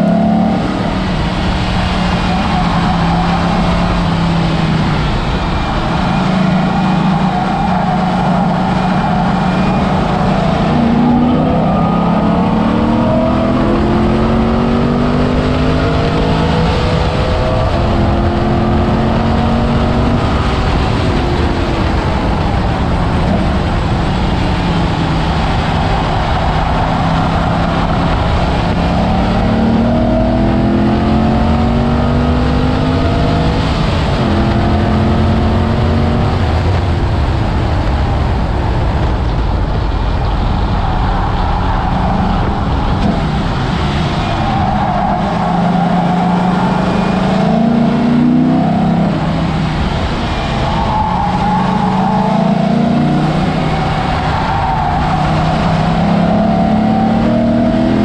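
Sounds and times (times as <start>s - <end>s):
car engine accelerating hard: 0.0s - 58.0s
wind and tyre noise: 0.0s - 58.0s.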